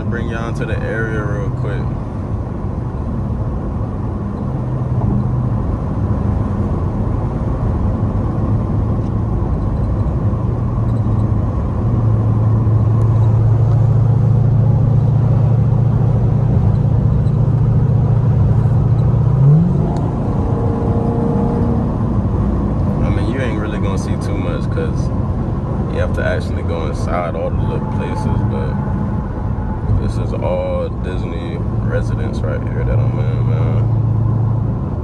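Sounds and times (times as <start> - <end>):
car exhaust droning: 0.0 - 35.0.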